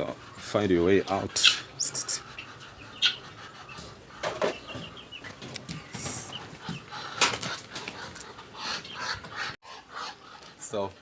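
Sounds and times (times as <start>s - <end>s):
chickens clucking: 0.0s - 11.0s
guinea fowl calling: 1.1s - 10.8s.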